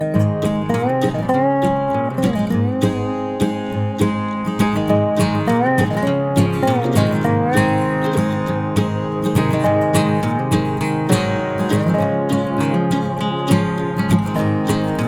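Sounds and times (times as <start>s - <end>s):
acoustic guitar strumming: 0.0s - 15.0s
slide guitar line: 0.0s - 15.0s.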